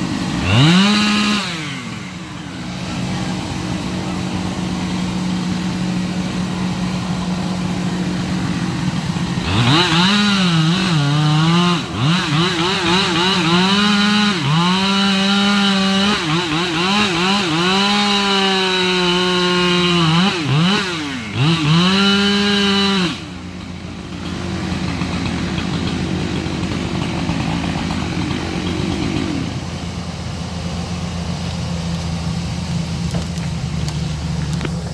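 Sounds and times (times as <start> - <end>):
chainsaw cutting wood: 0.0 - 34.9
steady engine hum: 0.0 - 34.9.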